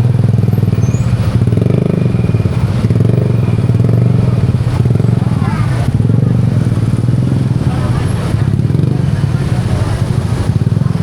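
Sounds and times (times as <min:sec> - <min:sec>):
motor scooter engine running: 0:00.0 - 0:11.0.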